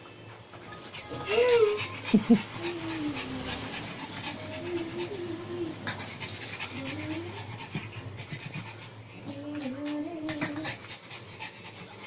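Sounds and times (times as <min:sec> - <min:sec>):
puppy panting: 0:00.2 - 0:12.0
puppy whining: 0:00.7 - 0:11.0.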